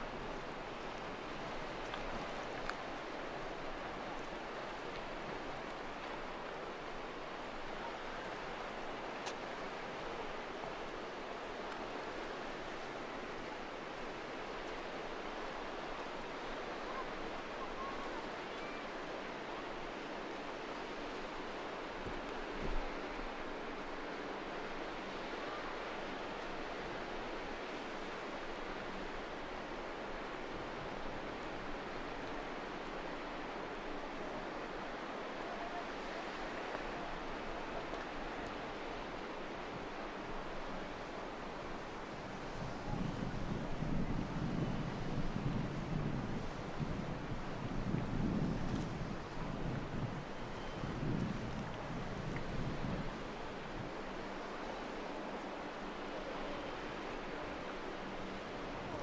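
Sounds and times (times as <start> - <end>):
sea surf on the shore: 0.0 - 59.0
wind: 0.0 - 59.0.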